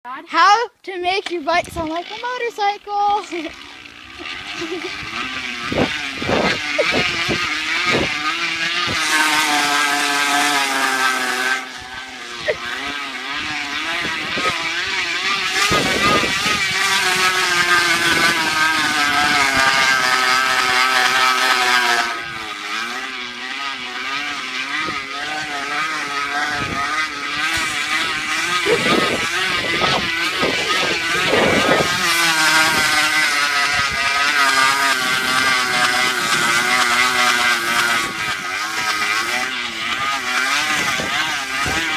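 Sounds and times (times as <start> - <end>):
buzzing motorcycle-like drone: 0.1 - 41.9.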